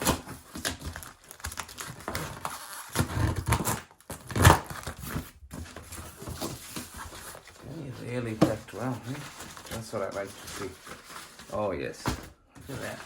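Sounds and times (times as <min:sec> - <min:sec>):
packing material crinkling and tearing: 0:00.0 - 0:11.8.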